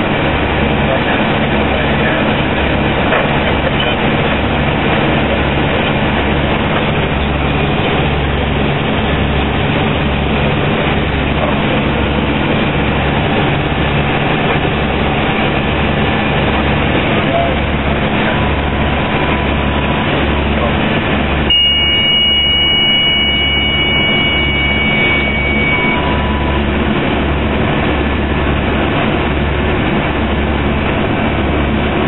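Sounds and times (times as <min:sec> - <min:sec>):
turboprop engines droning: 0:00.0 - 0:32.0.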